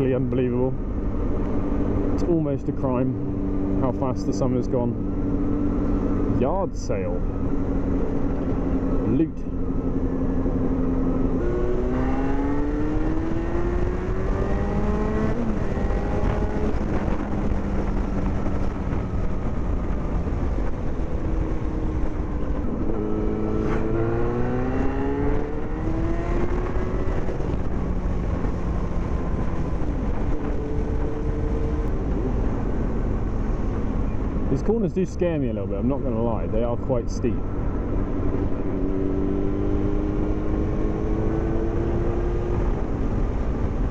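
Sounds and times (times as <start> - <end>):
wind and road rumble: 0.0 - 43.9
motorcycle engine accelerating: 3.1 - 4.4, 7.1 - 34.8, 35.7 - 43.9.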